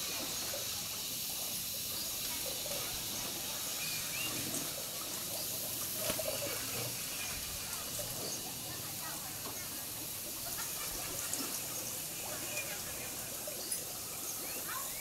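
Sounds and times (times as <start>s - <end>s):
hissing water trickle: 0.0s - 15.0s.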